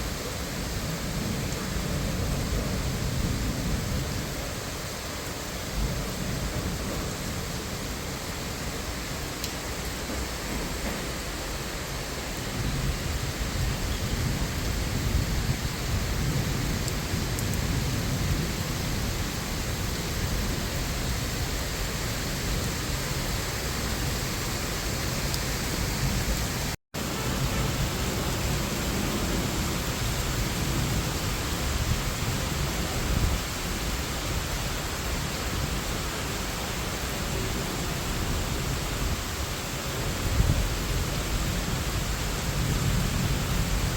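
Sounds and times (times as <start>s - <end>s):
rain falling on leaves: 0.0s - 43.9s.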